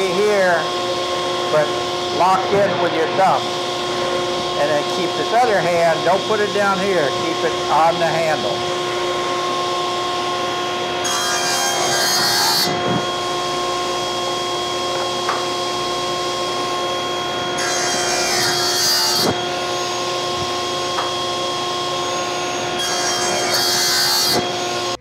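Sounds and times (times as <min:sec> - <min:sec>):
saw blade cutting wood: 0:00.0 - 0:25.0
table saw running: 0:00.0 - 0:25.0.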